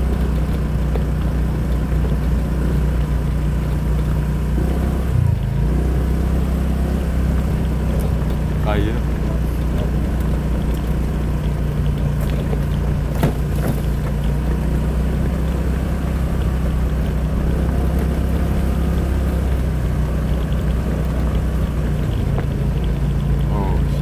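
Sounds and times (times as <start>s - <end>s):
scooter engine running: 0.0s - 24.0s.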